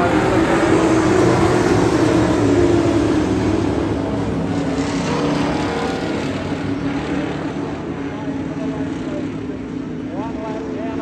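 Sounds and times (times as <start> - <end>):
race car engines roaring past: 0.0 - 11.0.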